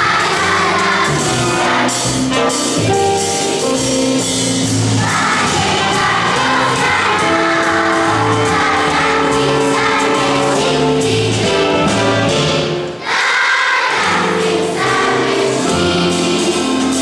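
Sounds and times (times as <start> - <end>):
choir singing long notes: 0.0 - 2.6, 5.0 - 17.0.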